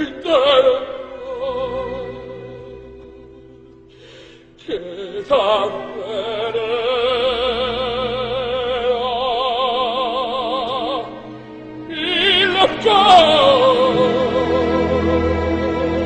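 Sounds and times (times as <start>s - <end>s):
operatic singing: 0.0s - 3.8s, 4.6s - 16.0s
orchestra: 0.0s - 16.0s.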